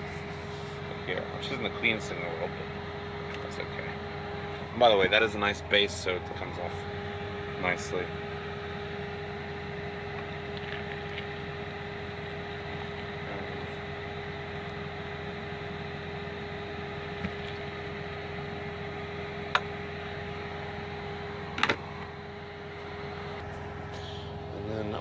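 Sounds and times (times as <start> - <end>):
auxiliary power unit humming: 0.0 - 25.0.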